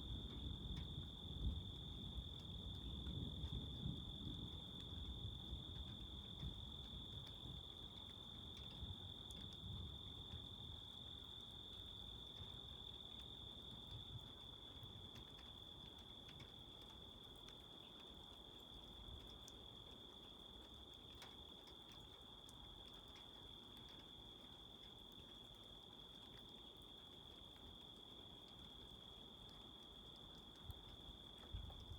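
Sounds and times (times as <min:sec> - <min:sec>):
crickets chirping: 0:00.0 - 0:31.9
faint ticks: 0:00.0 - 0:31.9.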